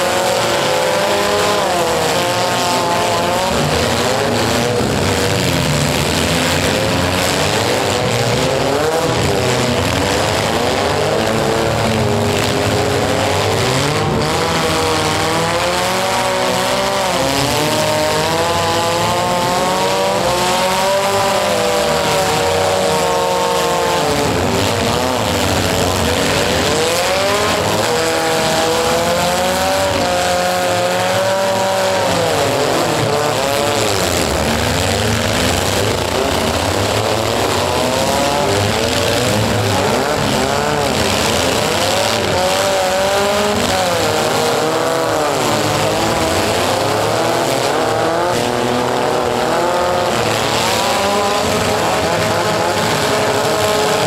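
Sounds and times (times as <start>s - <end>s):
car engines revving hard: 0.0s - 54.0s.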